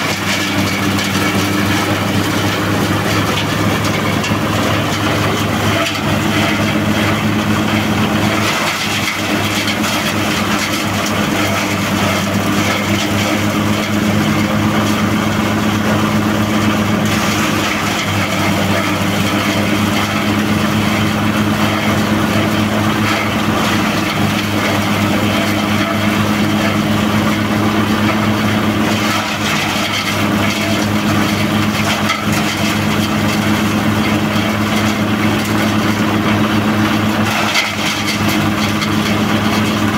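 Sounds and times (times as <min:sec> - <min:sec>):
diesel engine running: 0:00.0 - 0:39.9
shredder chopping plants: 0:00.0 - 0:39.9.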